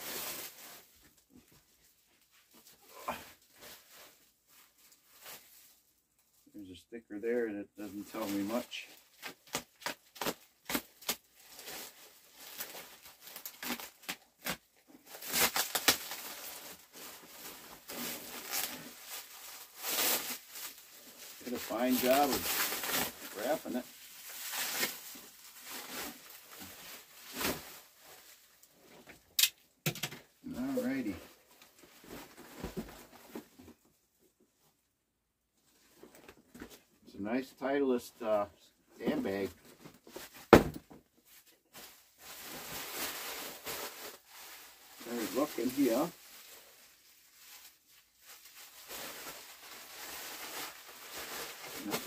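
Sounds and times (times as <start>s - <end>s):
plastic wrap crinkling: 0.0s - 6.5s, 7.8s - 33.8s, 39.2s - 52.0s.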